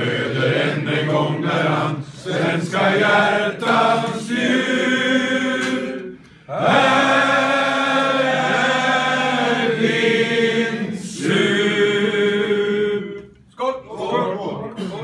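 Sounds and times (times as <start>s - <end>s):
men singing together: 0.0s - 13.3s.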